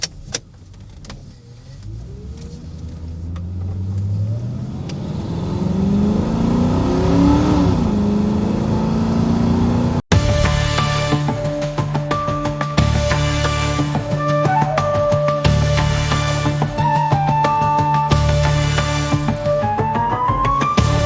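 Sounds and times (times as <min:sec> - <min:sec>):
car engine accelerating: 0:00.6 - 0:21.0.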